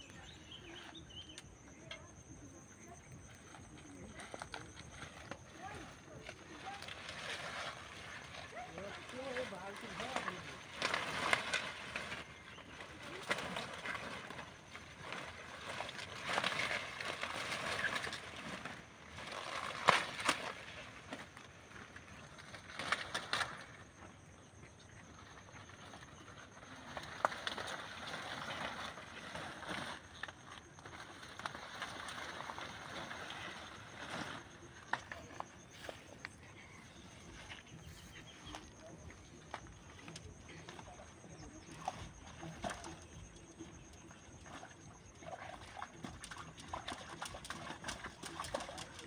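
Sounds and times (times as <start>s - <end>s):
leaves and stems rustling: 0.0s - 49.0s.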